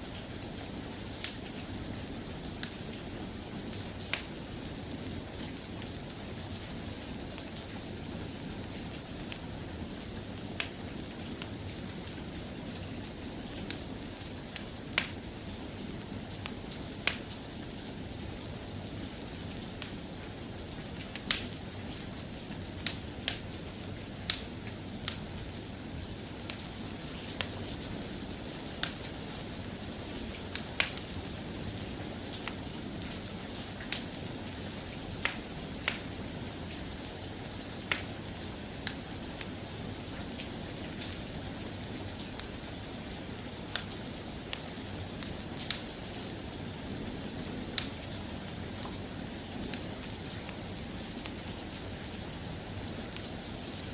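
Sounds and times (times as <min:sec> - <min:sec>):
soft rain: 0:00.0 - 0:53.9.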